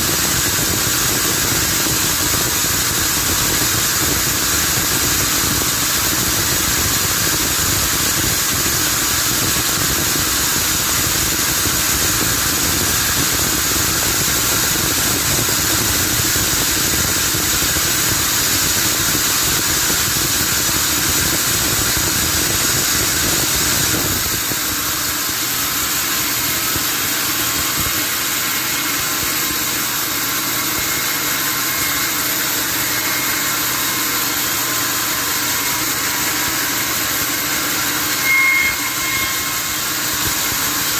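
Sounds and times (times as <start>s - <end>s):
sawmill machinery hissing: 0.0s - 40.9s.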